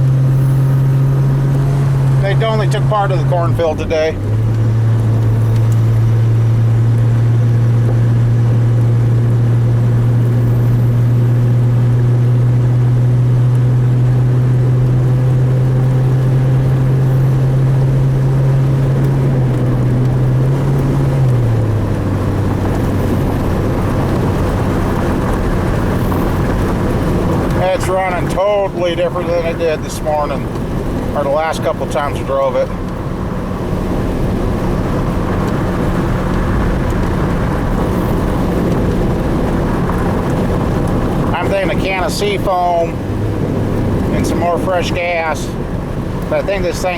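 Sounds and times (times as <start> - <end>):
car engine droning: 0.0 - 46.9.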